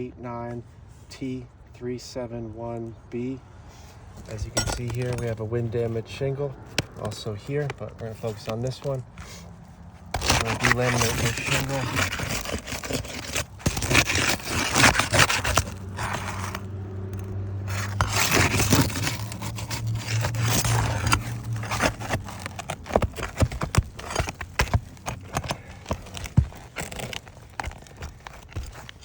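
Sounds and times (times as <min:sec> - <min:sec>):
roof shingle scraping: 0:04.0 - 0:29.0.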